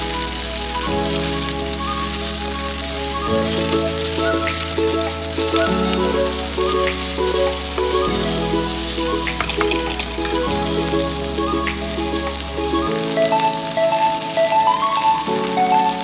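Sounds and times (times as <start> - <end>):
background music with bass line: 0.0 - 15.7.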